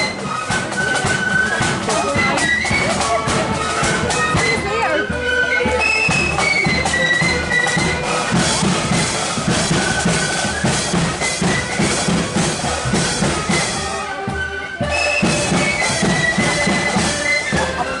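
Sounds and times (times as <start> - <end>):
flutes playing melody: 0.0 - 18.0
marching drums: 0.0 - 18.0.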